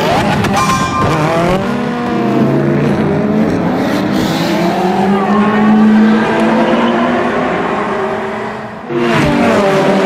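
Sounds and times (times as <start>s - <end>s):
sports car engines revving: 0.0s - 10.0s.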